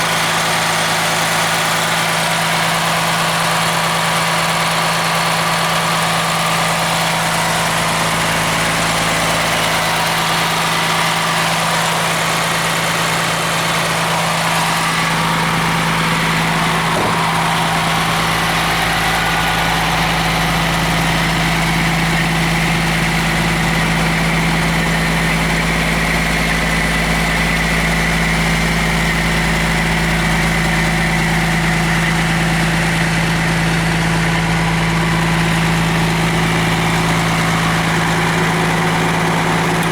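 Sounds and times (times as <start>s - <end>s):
diesel bus engine idling: 0.0s - 39.9s.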